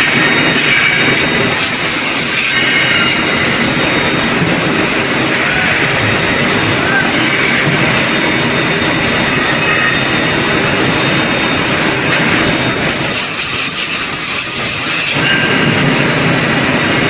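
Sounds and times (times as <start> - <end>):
machinery roar: 0.0 - 17.0.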